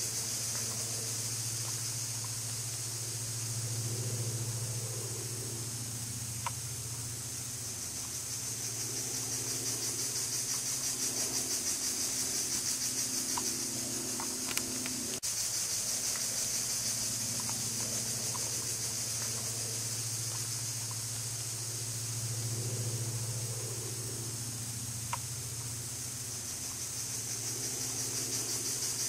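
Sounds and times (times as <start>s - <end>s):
insects buzzing: 0.0s - 29.0s
low steady hum: 0.0s - 29.0s.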